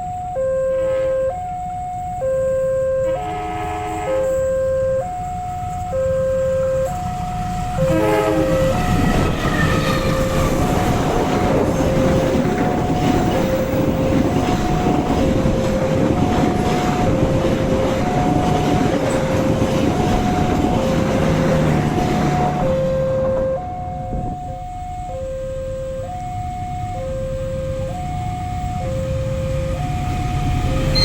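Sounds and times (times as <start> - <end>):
train passing with wheel noise: 0.0 - 2.2, 3.0 - 31.0
level crossing two-tone alarm: 0.0 - 31.0.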